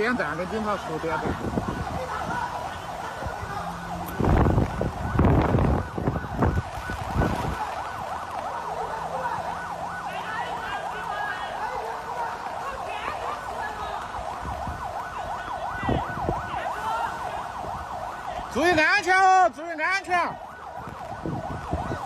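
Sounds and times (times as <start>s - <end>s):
siren yelping: 0.0s - 22.0s.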